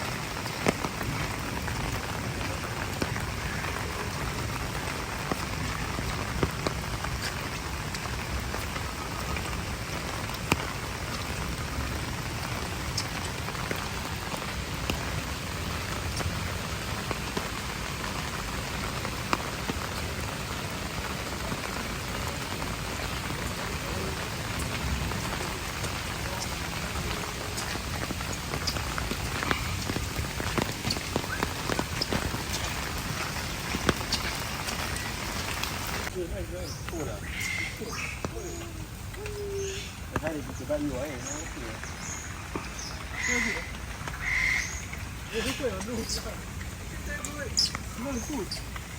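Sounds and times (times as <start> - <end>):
sharp raindrop hits: 0.0 - 48.9
steady rain falling: 0.0 - 48.9.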